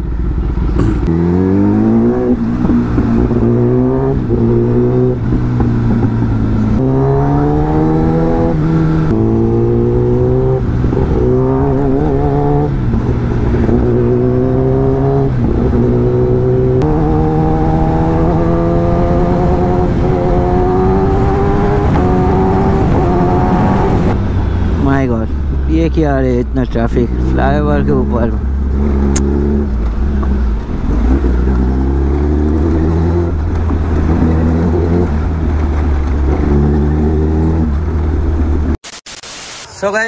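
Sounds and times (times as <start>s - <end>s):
motorcycle engine revving: 0.0s - 25.7s, 27.0s - 38.8s.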